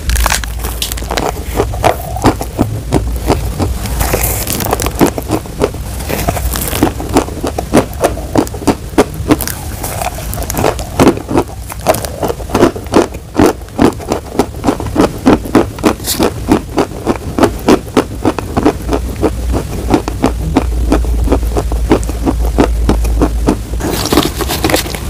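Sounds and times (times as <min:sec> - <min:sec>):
chalk being chewed crunching: 0:00.0 - 0:25.0.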